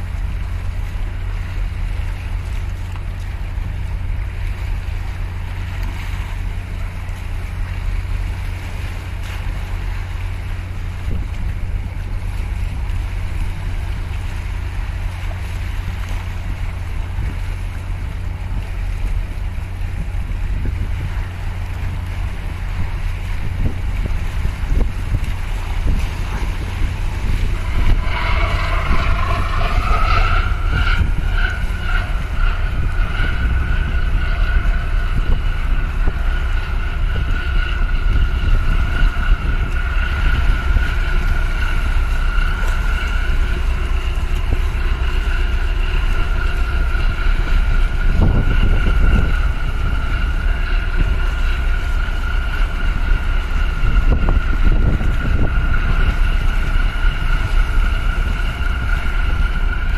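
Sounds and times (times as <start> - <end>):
high machinery whine: 0.0 - 59.9
water washing against breakwater: 0.0 - 59.9
wind on microphone: 0.0 - 59.9.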